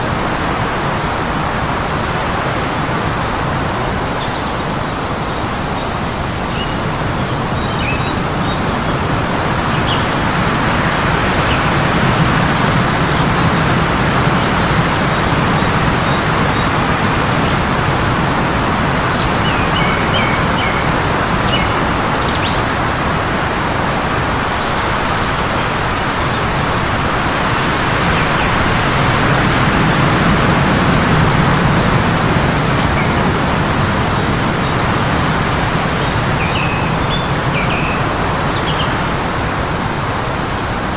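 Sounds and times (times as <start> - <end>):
strong blizzard wind: 0.0 - 40.9
small birds chirping: 3.0 - 39.6.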